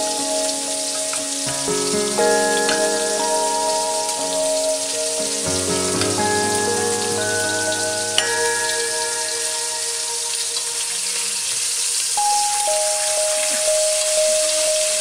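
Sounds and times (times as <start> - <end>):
food sizzling in frying pan: 0.0 - 15.0
slow background music: 0.0 - 15.0.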